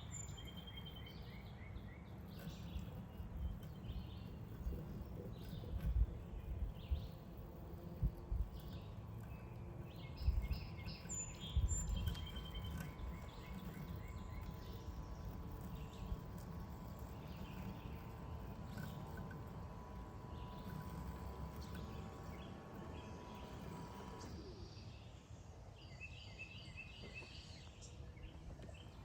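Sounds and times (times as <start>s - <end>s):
low rumble with bumps: 0.0s - 24.4s
birds chirping: 0.0s - 29.0s
faint steady hum: 0.0s - 29.0s.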